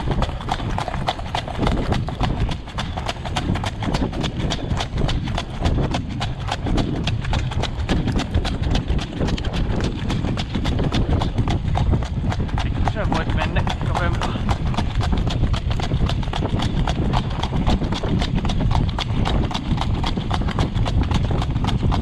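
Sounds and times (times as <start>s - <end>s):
hooves clip-clopping on gravel: 0.0s - 22.0s
steady low rumble: 0.0s - 22.0s.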